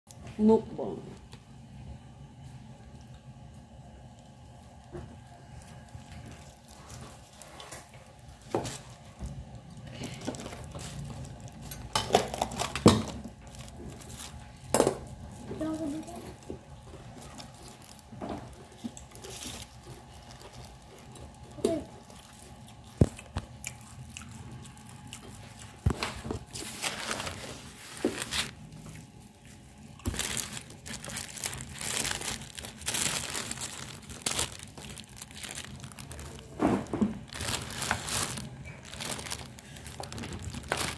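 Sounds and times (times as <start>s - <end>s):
paper wrapper crinkling: 4.1s - 16.4s, 17.0s - 23.6s, 24.3s - 40.9s.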